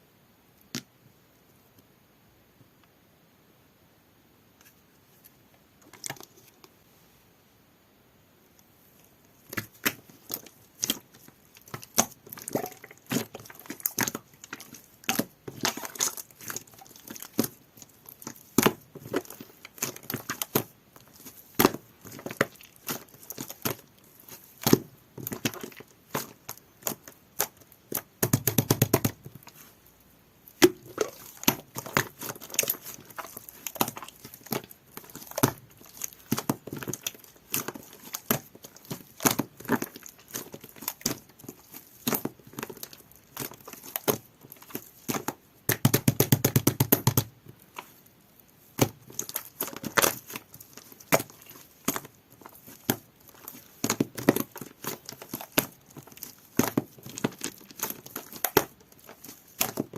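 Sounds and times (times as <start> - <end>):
slime squished by hand: 9.4 - 59.9.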